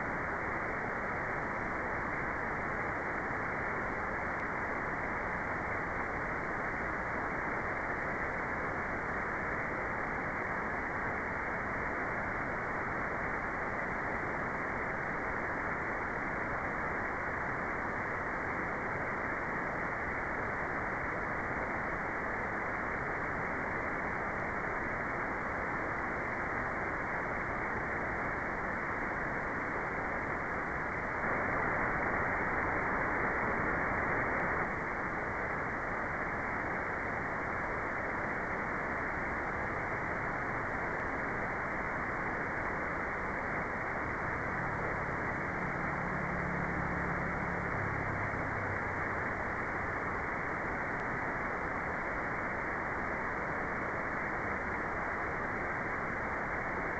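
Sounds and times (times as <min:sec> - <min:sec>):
muffled white noise hiss: 0:00.0 - 0:56.9.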